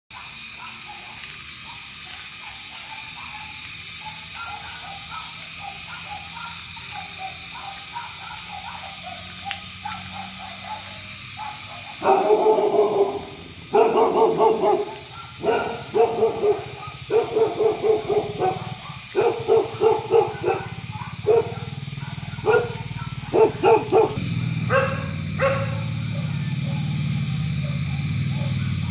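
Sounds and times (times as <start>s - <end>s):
rain hissing: 0.2s - 28.9s.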